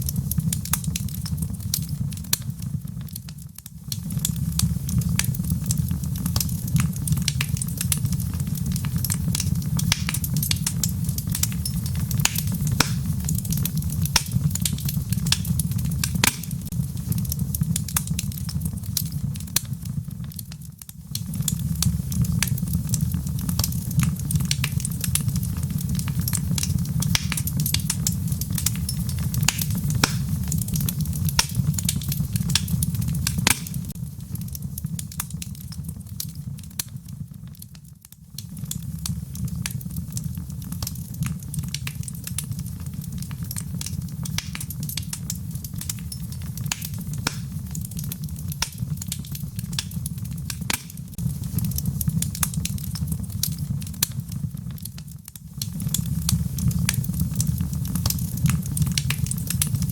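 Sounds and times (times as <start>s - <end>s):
rain pattering: 0.0s - 59.9s
wood fire crackling: 0.0s - 59.9s.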